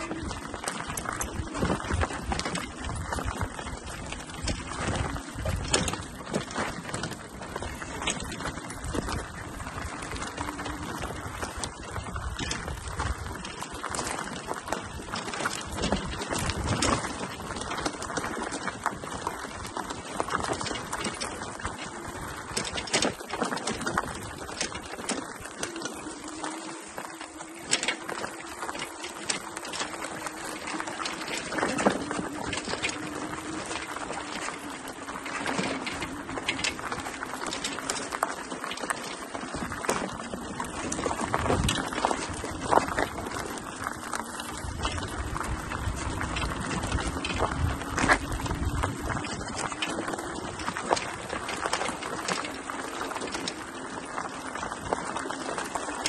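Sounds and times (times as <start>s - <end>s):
wheels crunching on dirt: 0.0s - 56.0s.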